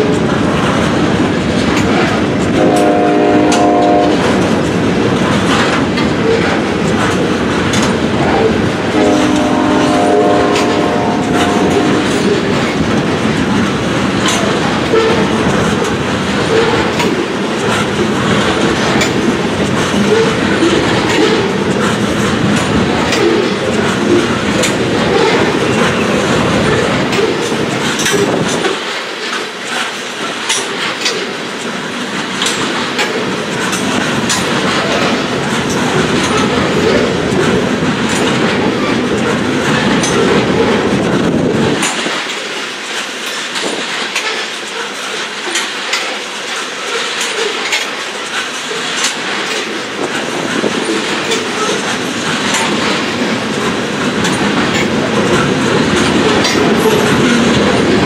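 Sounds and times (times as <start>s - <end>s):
train wheels rolling and clicking: 0.0s - 58.0s.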